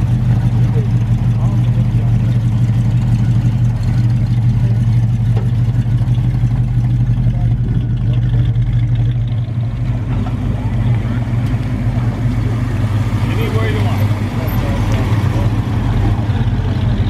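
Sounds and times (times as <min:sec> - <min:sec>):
car engine exhaust rumble: 0:00.0 - 0:17.0.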